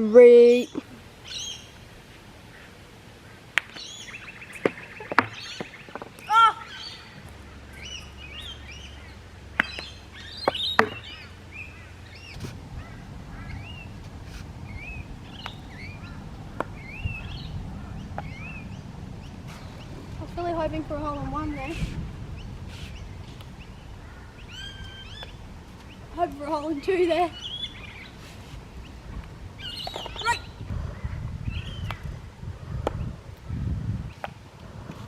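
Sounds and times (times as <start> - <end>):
small birds chirping: 0.0 - 34.3.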